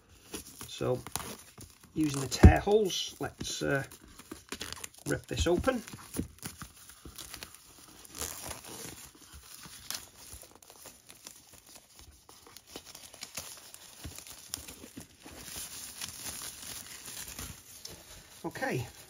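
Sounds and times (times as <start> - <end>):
packaging tearing and crinkling: 0.1 - 19.0.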